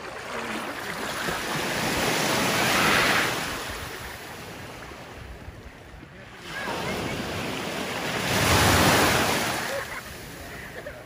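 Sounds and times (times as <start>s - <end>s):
small waves washing on sand: 0.0s - 11.0s.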